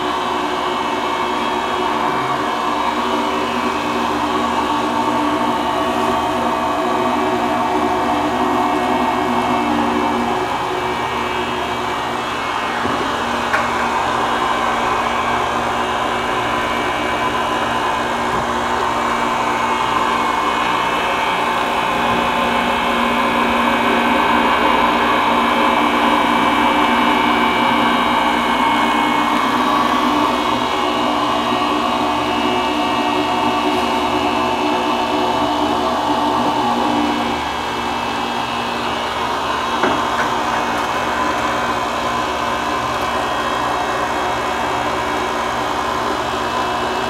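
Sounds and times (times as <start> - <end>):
electric fish grinder motor drone: 0.0 - 47.0.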